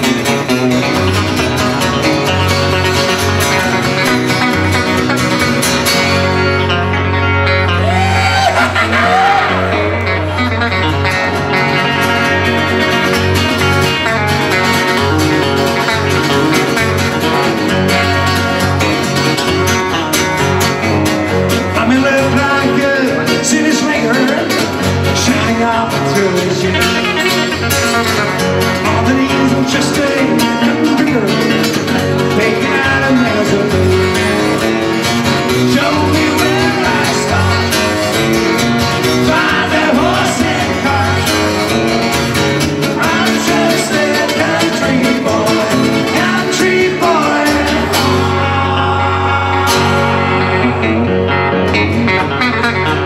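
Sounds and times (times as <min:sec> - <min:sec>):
acoustic guitar: 0:00.0 - 0:53.0
electric guitar: 0:00.0 - 0:53.0.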